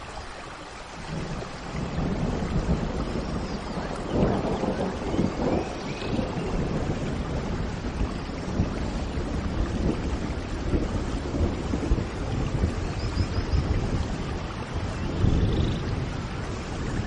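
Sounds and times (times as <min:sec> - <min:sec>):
heavy rain: 0:00.0 - 0:17.0
rolling thunder rumble: 0:01.0 - 0:17.0.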